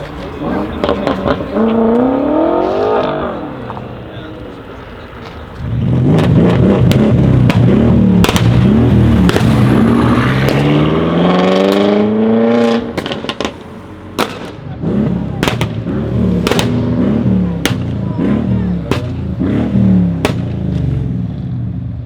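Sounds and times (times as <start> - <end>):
exhaust crackles and pops: 0.0 - 21.6
car engine revving: 0.0 - 22.0.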